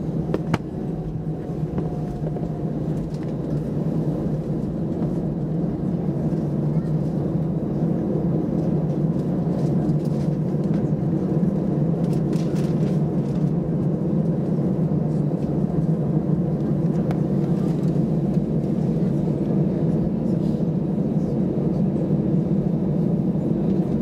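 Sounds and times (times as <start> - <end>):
jet engines rumbling from cabin: 0.0 - 24.0.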